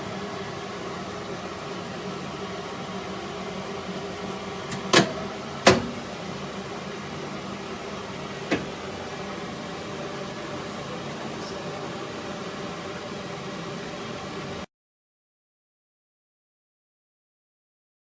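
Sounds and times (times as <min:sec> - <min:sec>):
microwave oven humming: 0:00.0 - 0:14.7.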